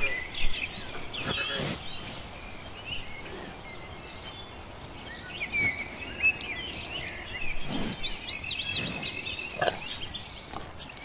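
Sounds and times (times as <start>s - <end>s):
birds chirping and warbling: 0.0s - 11.0s.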